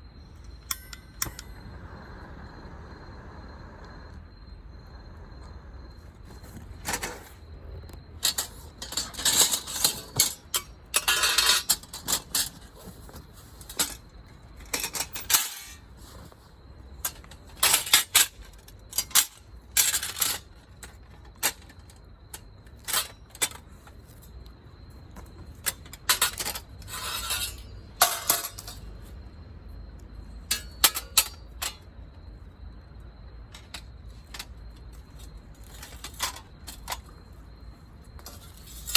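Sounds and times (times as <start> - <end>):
metal camping gear clinking: 0.4 - 1.6, 6.2 - 16.4, 17.0 - 24.4, 25.0 - 29.2, 30.0 - 32.5, 33.4 - 38.9.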